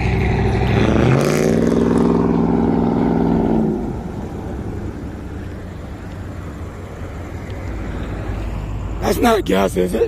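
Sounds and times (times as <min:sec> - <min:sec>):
low road rumble: 0:00.0 - 0:10.0
vehicle engine humming: 0:00.0 - 0:10.0.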